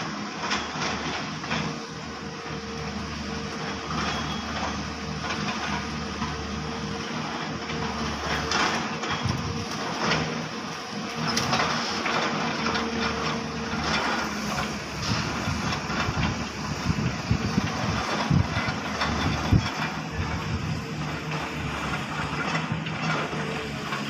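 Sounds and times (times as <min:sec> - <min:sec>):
excavator diesel engines running: 0:00.0 - 0:24.0
hydraulic hum: 0:00.0 - 0:24.0.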